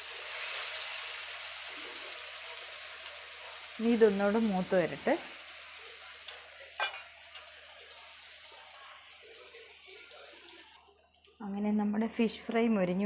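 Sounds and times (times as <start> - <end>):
fish sizzling in frying pan: 0.0 - 10.8.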